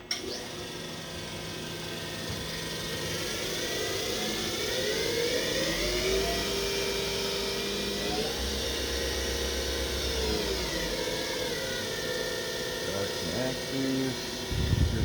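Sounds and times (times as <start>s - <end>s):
machine spindle whine: 0.0s - 15.0s.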